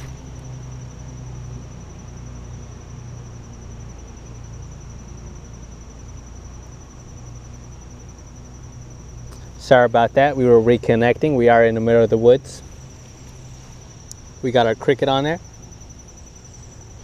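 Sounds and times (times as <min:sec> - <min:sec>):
insect trill: 0:00.0 - 0:17.0
low steady rumble: 0:00.0 - 0:17.0.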